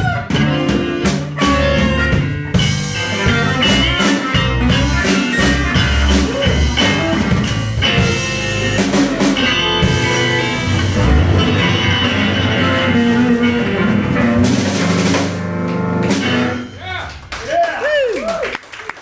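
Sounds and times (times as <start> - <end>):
electric guitar: 0.0 - 16.8
bass guitar: 0.0 - 17.6
drum kit: 0.0 - 18.4.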